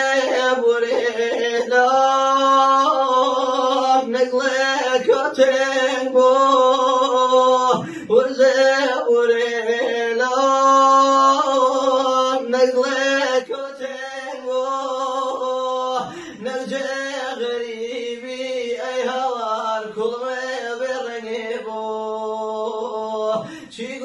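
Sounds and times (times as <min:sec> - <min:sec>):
man singing chant-like melody: 0:00.0 - 0:24.0.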